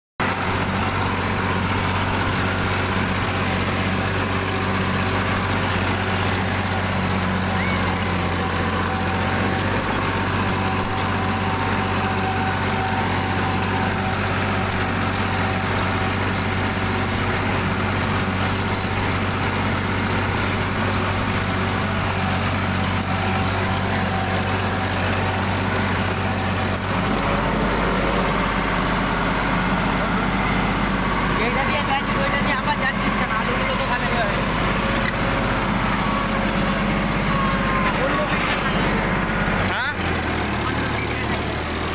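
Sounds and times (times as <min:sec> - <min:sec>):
tractor diesel engine running: 0:00.2 - 0:41.9.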